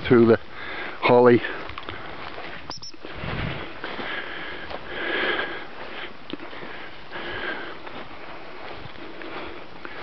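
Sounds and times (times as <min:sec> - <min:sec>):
loud sniffing breaths: 0:00.6 - 0:10.0.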